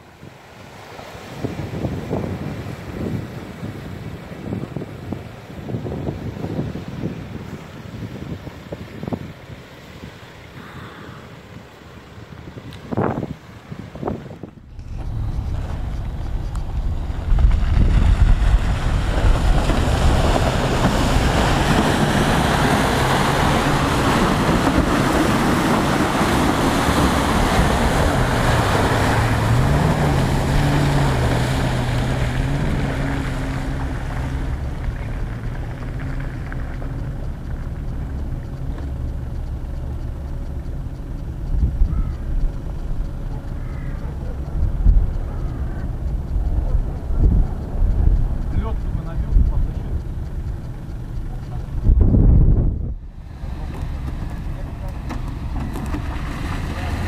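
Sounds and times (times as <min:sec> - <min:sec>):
tyres churning and splashing mud: 0:00.0 - 0:57.0
wind buffeting microphone: 0:00.0 - 0:57.0
suv engine working hard: 0:01.0 - 0:57.0.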